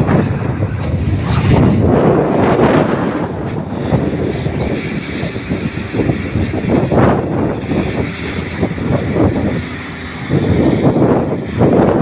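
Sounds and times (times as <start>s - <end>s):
diesel engine rumbling: 0.0s - 12.0s
wind gusting on microphone: 0.0s - 12.0s.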